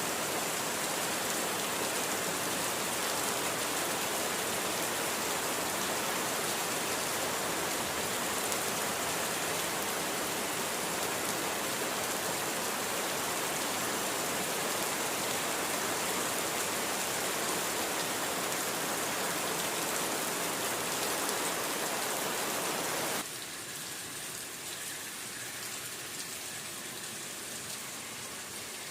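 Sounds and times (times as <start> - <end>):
steady rainfall: 0.0 - 28.9.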